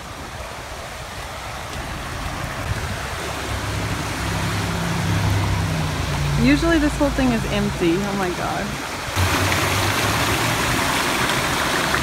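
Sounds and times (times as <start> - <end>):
floodwater rushing through channel: 0.0 - 12.0
vehicle engine hum: 1.4 - 12.0.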